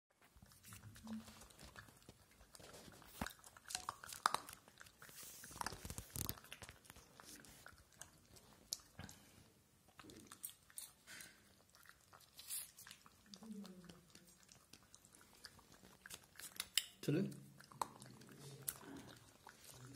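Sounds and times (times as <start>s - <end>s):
puppy crunching dry kibble: 0.2s - 19.9s.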